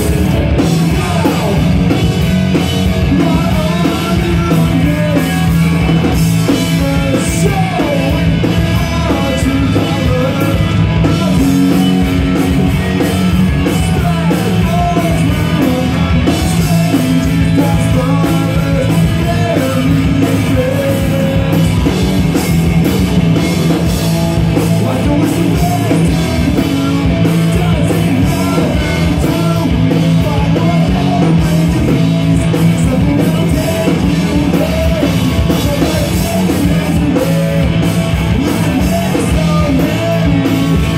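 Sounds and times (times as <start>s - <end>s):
drum kit: 0.0s - 40.9s
electric guitars: 0.0s - 40.9s
person singing: 0.6s - 2.0s, 3.0s - 22.0s, 24.7s - 40.9s.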